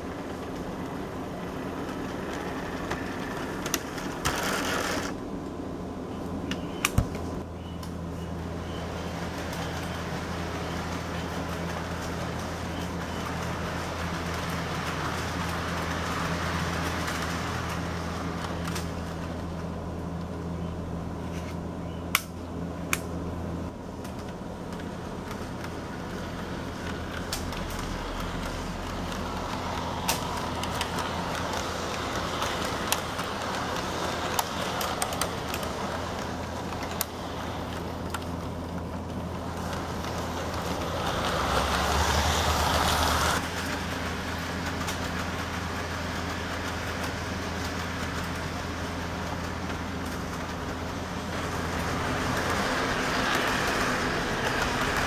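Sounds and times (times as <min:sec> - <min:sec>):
model train running on track: 0:00.0 - 0:05.2, 0:07.6 - 0:21.1, 0:23.7 - 0:55.0.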